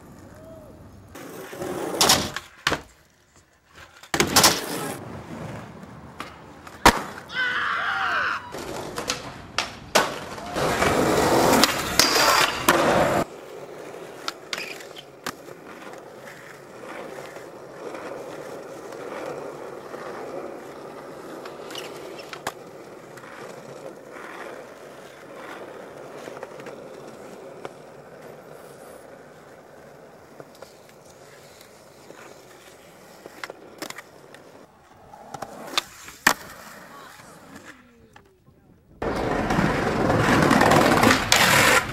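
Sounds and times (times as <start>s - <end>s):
skateboard wheels rolling on pavement: 0.0s - 41.9s
skateboard clacks popping and landing: 1.2s - 7.3s, 8.6s - 28.5s, 33.1s - 38.4s, 39.0s - 41.9s.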